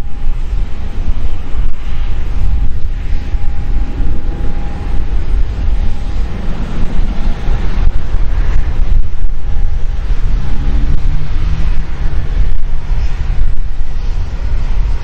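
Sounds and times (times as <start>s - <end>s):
distant jet engines rumbling: 0.0s - 15.0s
faint steady whine: 0.0s - 15.0s
wind buffeting microphone: 0.0s - 15.0s.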